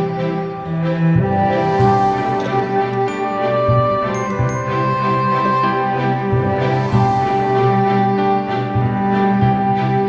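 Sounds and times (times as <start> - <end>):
soft orchestral background music: 0.0 - 10.0.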